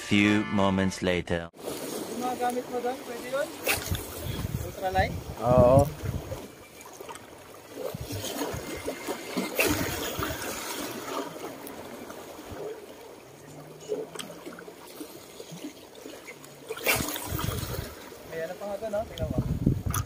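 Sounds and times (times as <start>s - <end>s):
sea waves lapping on rocks: 1.6s - 20.0s
wave splash: 1.6s - 20.0s.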